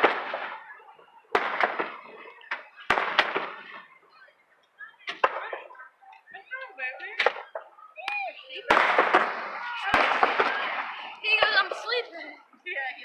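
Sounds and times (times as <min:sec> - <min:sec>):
fireworks bangs: 0:00.0 - 0:04.1, 0:05.0 - 0:06.5, 0:07.1 - 0:12.1
fireworks crackling: 0:00.0 - 0:04.2, 0:04.8 - 0:12.8.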